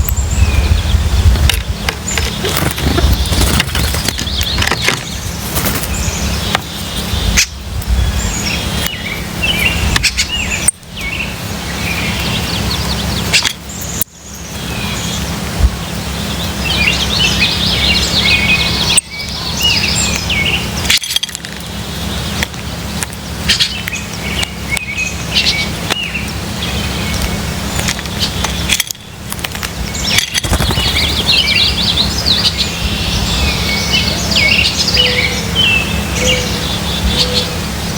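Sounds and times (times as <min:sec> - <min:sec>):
birds chirping and twittering: 0:00.0 - 0:37.9
steady low hum: 0:00.0 - 0:37.9.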